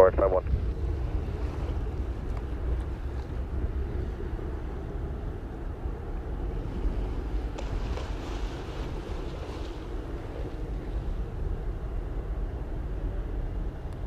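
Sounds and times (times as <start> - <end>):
jet engines rumbling: 0.0 - 14.0
wind buffeting microphone: 0.0 - 14.0.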